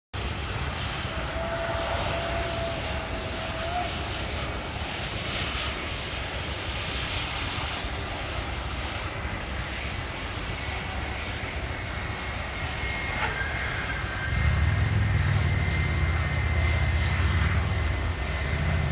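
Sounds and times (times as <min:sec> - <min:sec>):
jet engines roaring: 0:00.2 - 0:18.9.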